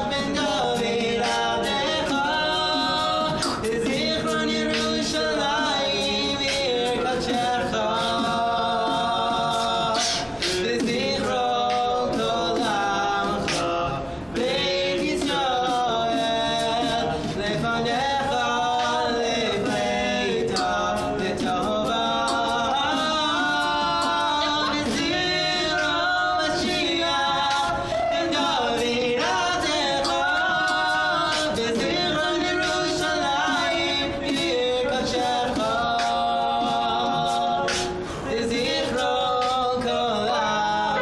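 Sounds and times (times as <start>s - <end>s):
beatboxing: 0.0s - 41.0s
men singing harmonies: 0.0s - 41.0s.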